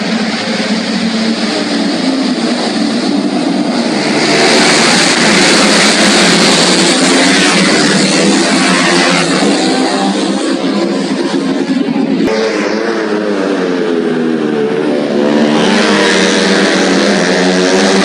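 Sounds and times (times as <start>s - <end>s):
motorcycle engines at high revs: 0.0s - 18.0s.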